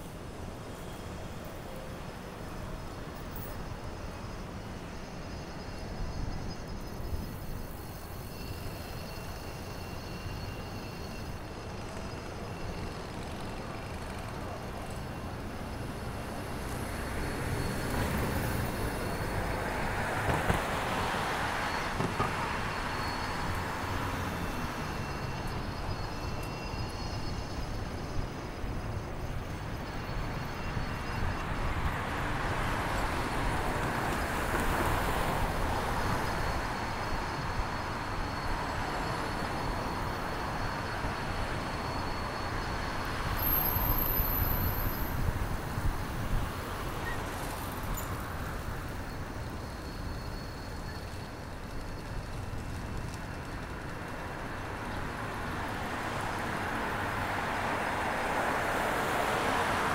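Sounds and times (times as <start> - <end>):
city traffic rumble: 0.0 - 59.9
vehicles passing: 11.8 - 59.9.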